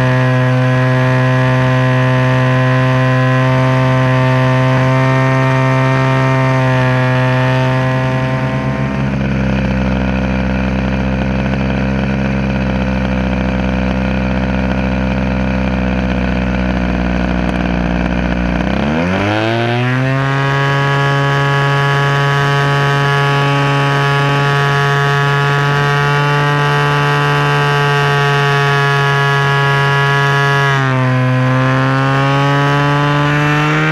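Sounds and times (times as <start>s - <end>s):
model plane engine revving: 0.0s - 33.9s.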